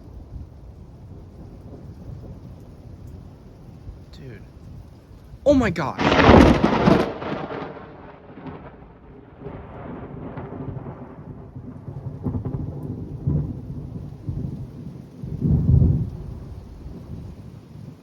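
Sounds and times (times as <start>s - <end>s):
thunder rumbling: 1.0s - 16.9s.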